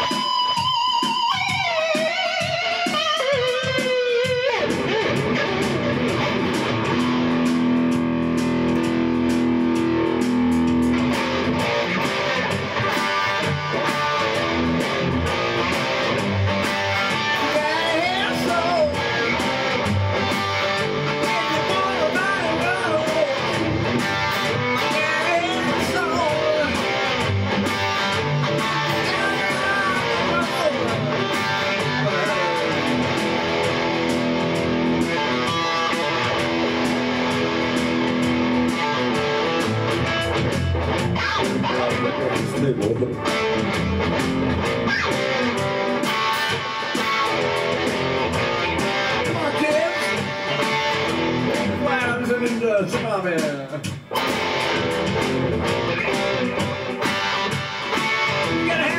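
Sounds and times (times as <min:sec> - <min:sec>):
electric guitar lead: 0:00.0 - 0:58.9
steady drum beat: 0:00.0 - 0:58.9
bass line: 0:04.5 - 0:58.9.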